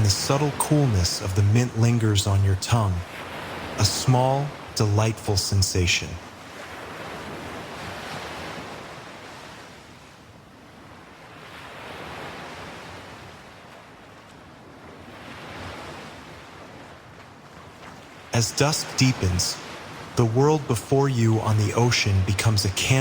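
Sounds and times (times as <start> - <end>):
ocean waves washing onto shore: 0.0 - 23.0.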